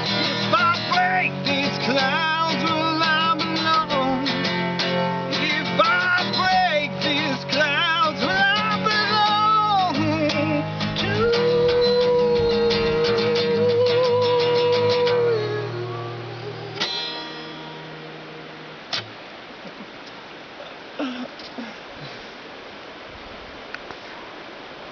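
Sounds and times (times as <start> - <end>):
acoustic guitar strumming: 0.0 - 20.2.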